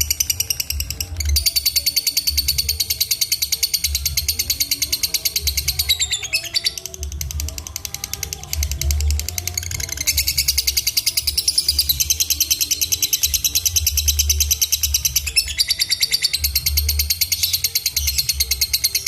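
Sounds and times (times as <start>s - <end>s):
lovebird ratcheting chatter: 0.0s - 19.0s.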